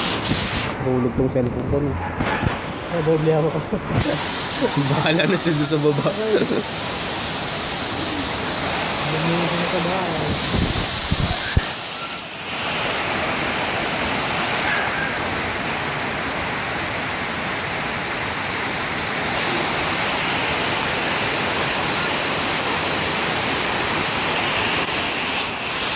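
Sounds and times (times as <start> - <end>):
heavy rain pouring: 0.0 - 25.9.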